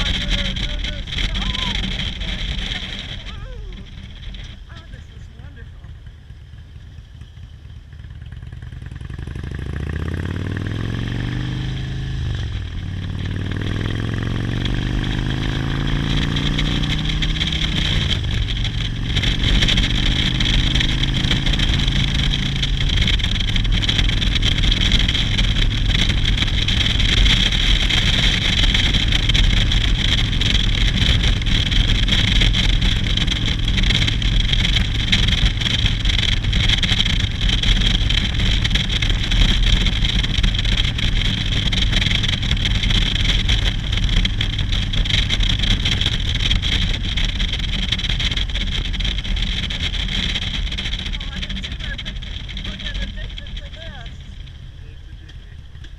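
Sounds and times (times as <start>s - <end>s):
wind noise: 0.0s - 5.9s, 9.2s - 55.9s
motorcycle engine accelerating: 0.0s - 55.9s.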